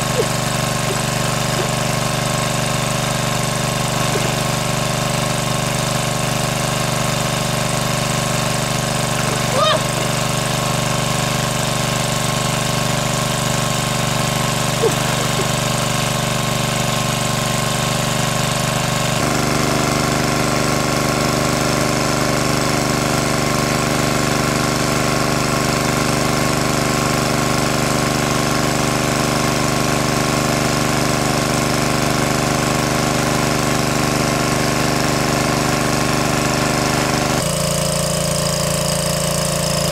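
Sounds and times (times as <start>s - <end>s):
water pump running: 0.0s - 39.9s.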